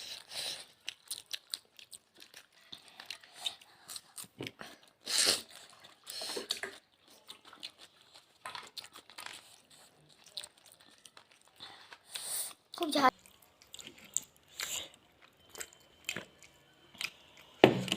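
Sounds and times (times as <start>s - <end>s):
chewing and mouth clicks: 0.1s - 17.9s.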